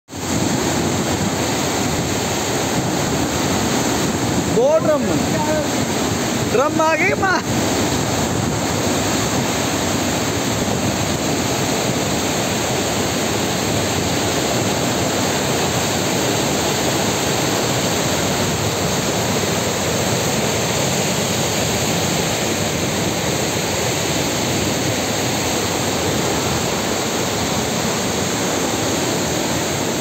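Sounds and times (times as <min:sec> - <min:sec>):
floodwater rushing roar: 0:00.1 - 0:30.0.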